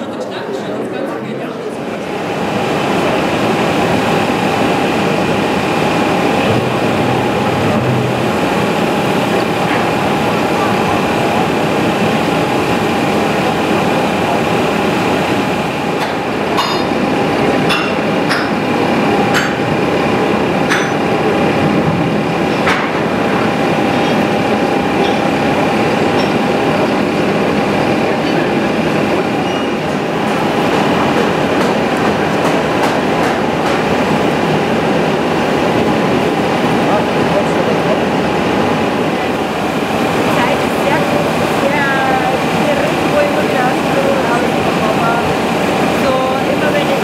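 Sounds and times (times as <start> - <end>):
furnace blower rushing: 2.0 - 47.0.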